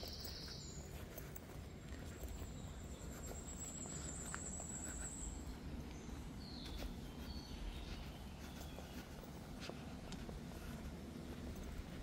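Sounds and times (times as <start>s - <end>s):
footsteps on dirt path: 0.0s - 12.0s.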